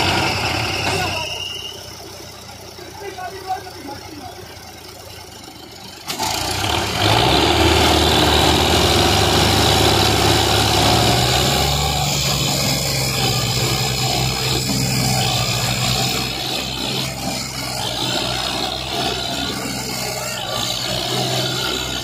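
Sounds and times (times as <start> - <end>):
tractor diesel engine straining: 0.0 - 22.0.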